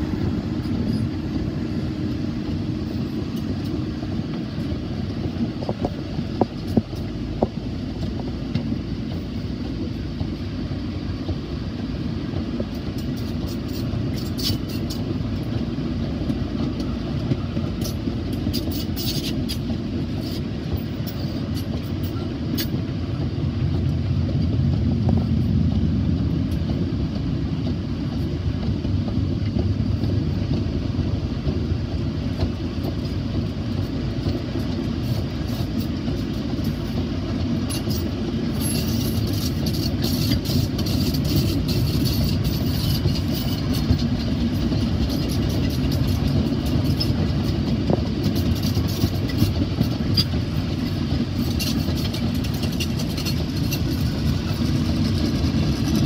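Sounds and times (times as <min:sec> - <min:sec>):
clicks and rattles of wheels: 0:00.0 - 0:56.0
train wheels rumbling on rails: 0:00.0 - 0:56.0.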